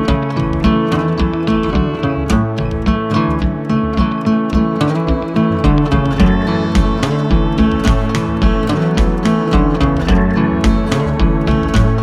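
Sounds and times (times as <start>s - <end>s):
steady bass beat: 0.0s - 12.0s
strummed acoustic guitar: 0.0s - 12.0s.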